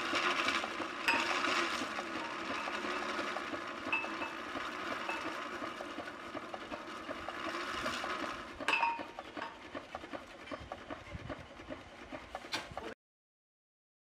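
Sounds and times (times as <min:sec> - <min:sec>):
winch running with even ticking: 0:00.0 - 0:13.0.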